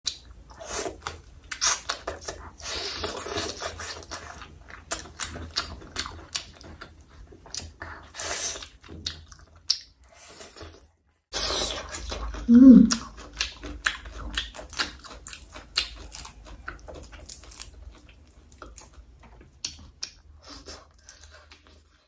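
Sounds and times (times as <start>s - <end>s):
person chewing food: 0.1s - 22.0s.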